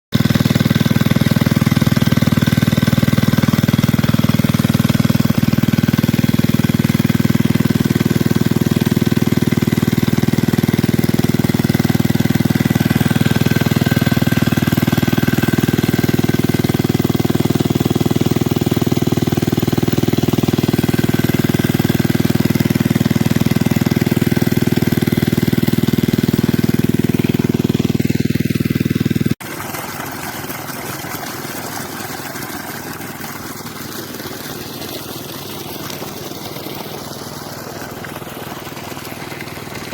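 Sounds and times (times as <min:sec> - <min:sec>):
diesel engine running: 0:00.2 - 0:39.9.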